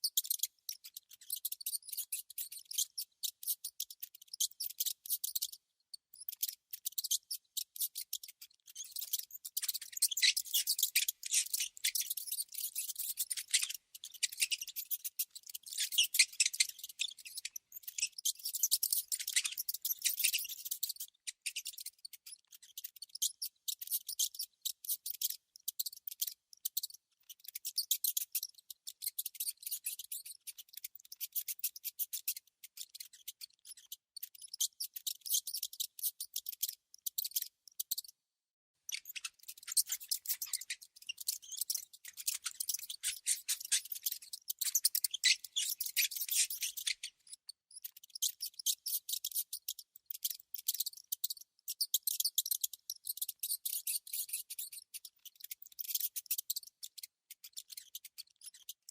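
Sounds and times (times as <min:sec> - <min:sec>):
rodent chittering: 0:00.0 - 0:38.1, 0:38.9 - 0:58.8.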